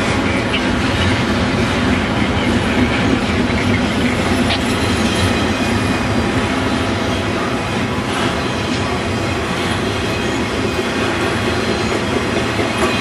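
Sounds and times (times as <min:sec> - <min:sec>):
freight train wheels on rails: 0:00.0 - 0:13.0.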